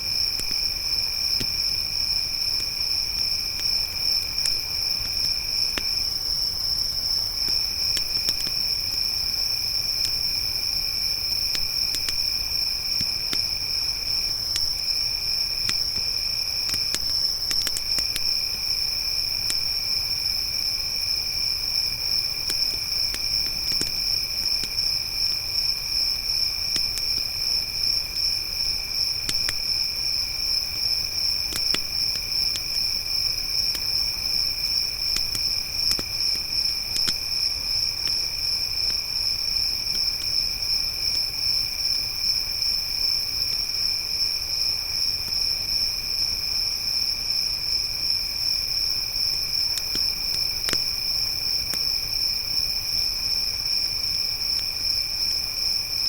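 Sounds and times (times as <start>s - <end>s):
crickets chirping: 0.0s - 56.0s
campfire pops and crackles: 0.1s - 42.2s, 49.4s - 53.0s.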